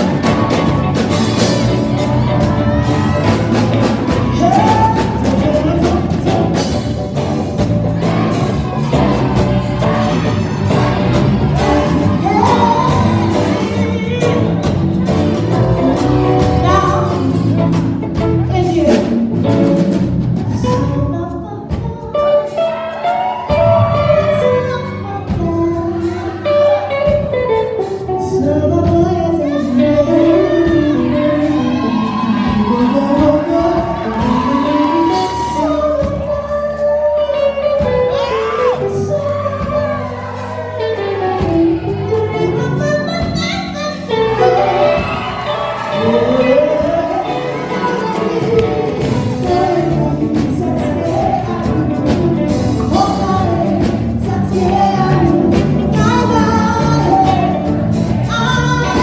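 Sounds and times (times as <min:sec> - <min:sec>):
instrumental backing: 0:00.0 - 0:59.0
person singing a melody: 0:00.0 - 0:59.0.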